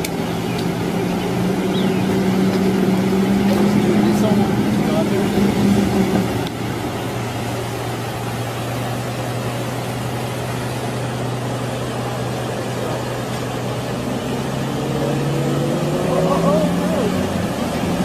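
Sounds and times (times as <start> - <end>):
fast-flowing water rushing: 0.0 - 18.0
truck diesel engine running: 0.0 - 18.0.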